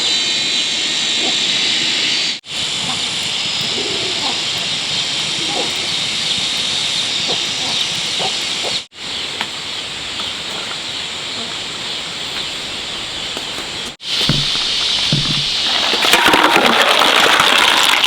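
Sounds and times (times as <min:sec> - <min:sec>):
steady high-pitched hiss: 0:00.0 - 0:16.1.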